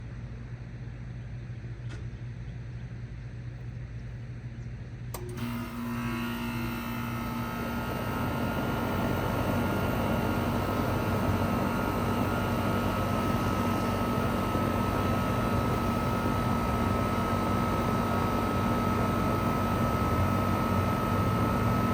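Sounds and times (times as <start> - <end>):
heat pump compressor humming: 0.0 - 21.9
low hum of neighbouring unit: 0.0 - 21.9
outdoor fan spinning: 0.0 - 21.9.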